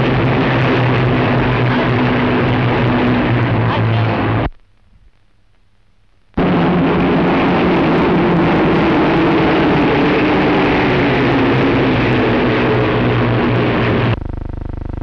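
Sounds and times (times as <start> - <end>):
propeller plane engines droning: 0.0 - 4.6, 6.3 - 14.4.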